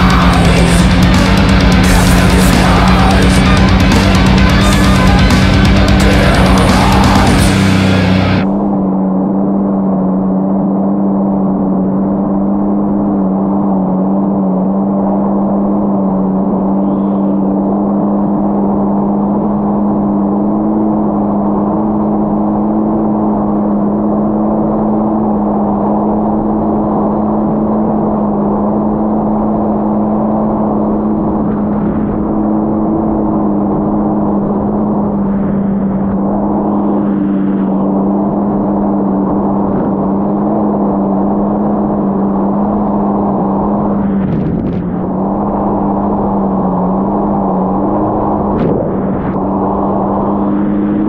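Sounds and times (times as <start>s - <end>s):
jet ski engine humming: 0.0s - 51.0s.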